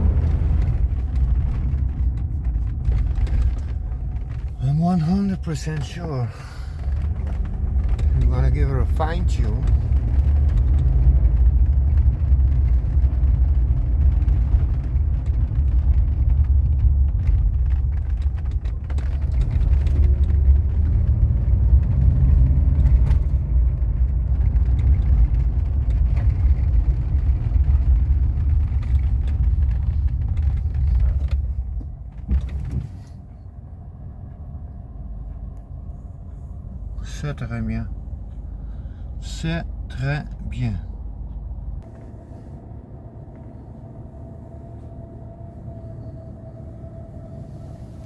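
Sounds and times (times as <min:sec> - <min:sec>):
car engine low rumble: 0:00.0 - 0:48.0.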